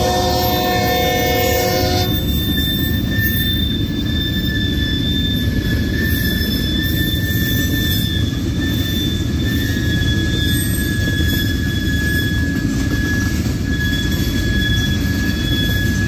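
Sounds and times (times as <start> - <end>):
high-pitched wheel squeal: 0.0 - 16.0
train wheels rumbling on rails: 0.0 - 16.0.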